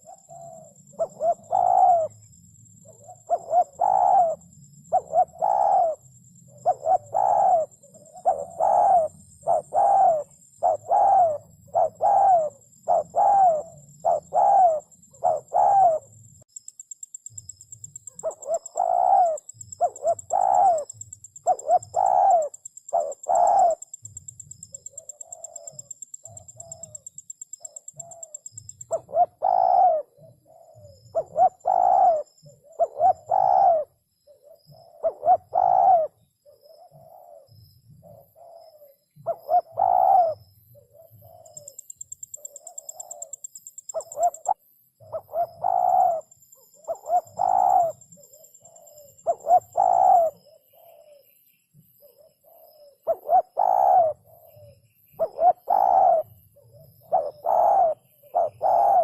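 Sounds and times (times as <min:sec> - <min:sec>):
dove cooing: 0:00.0 - 0:16.2, 0:17.4 - 0:51.4, 0:52.0 - 0:59.0.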